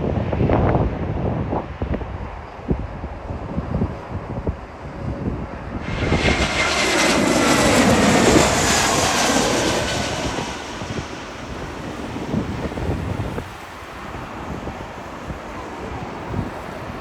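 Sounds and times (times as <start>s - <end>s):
wind buffeting microphone: 0.0s - 17.0s
jet airliner passing overhead: 1.4s - 17.0s.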